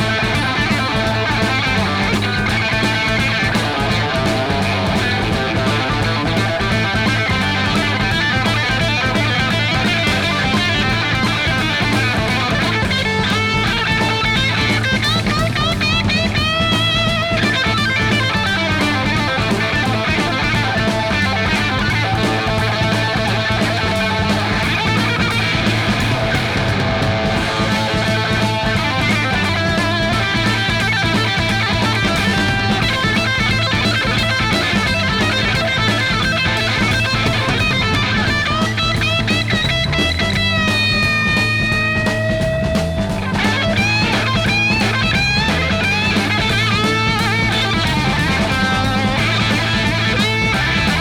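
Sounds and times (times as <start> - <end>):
bass guitar: 0.0 - 51.0
drums: 0.0 - 51.0
fast lead electric guitar: 0.0 - 51.0
hard rock from a vinyl record: 0.0 - 51.0.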